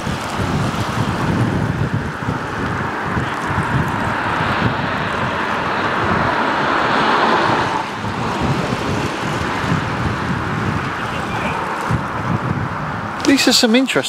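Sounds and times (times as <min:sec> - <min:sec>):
car tyres hissing on wet road: 0:00.0 - 0:13.7
wind rumble on microphone: 0:00.0 - 0:14.0.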